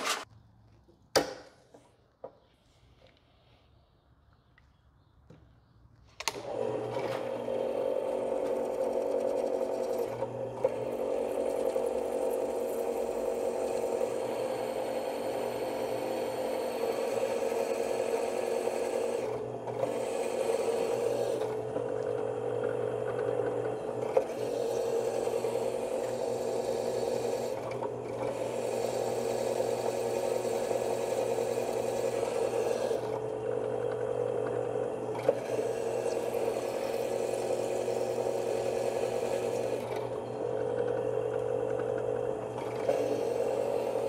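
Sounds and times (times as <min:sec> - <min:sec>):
drill press drilling steel: 0:06.2 - 0:44.0.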